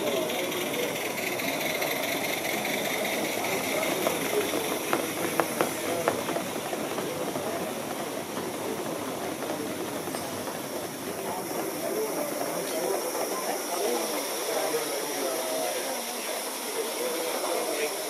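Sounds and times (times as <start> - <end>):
model locomotive hissing steam: 0.0 - 18.0.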